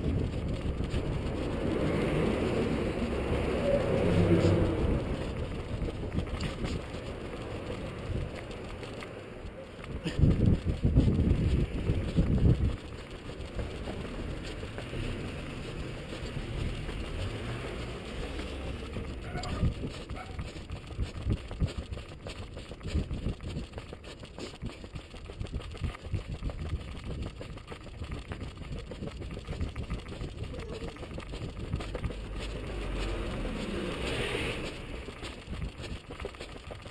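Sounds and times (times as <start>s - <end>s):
street traffic hum: 0.0s - 36.9s
wind and handling noise: 0.0s - 36.9s.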